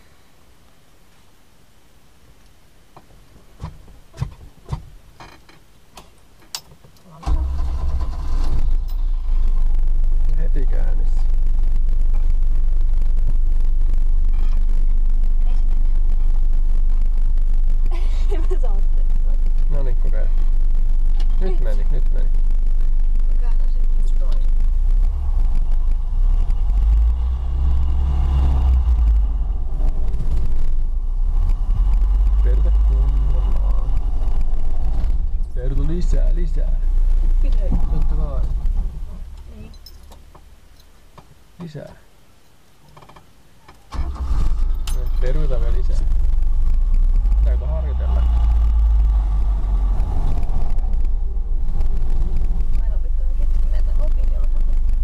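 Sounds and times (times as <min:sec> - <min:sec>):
car engine starting and running: 0:01.8 - 0:42.0, 0:42.6 - 0:55.0.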